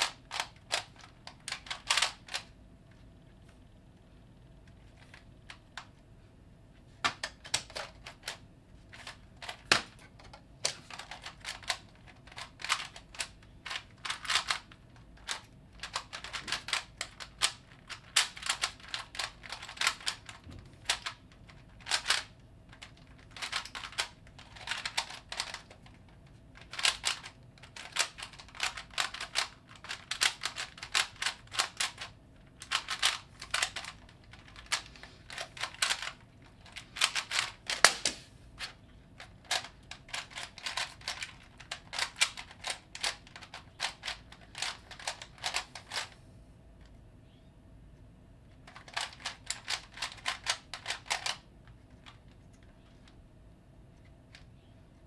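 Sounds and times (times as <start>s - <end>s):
puzzle cube clicking: 0.0s - 2.5s, 7.0s - 46.2s, 48.7s - 51.4s.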